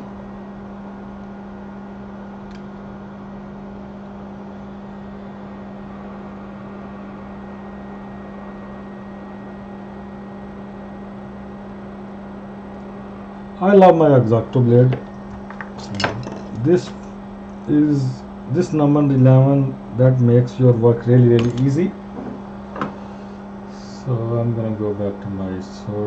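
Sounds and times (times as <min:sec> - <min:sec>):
electrical hum with fan whir: 0:00.0 - 0:26.0.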